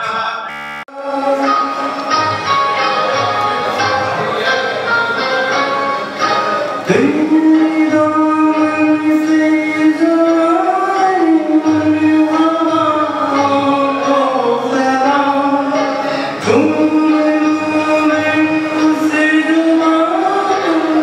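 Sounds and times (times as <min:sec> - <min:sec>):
man singing long notes: 0:00.0 - 0:04.8, 0:06.3 - 0:21.0.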